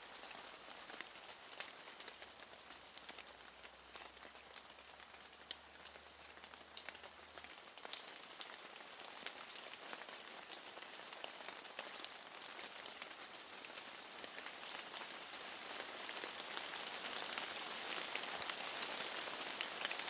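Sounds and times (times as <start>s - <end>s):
steady rain patter: 0.0s - 20.0s.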